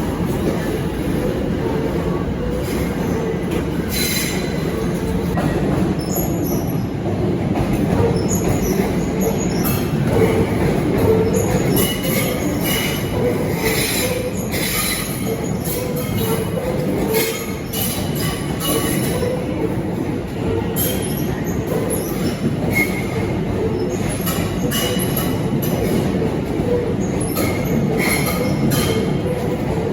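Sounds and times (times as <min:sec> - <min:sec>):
train rumbling on rails: 0:00.0 - 0:29.9.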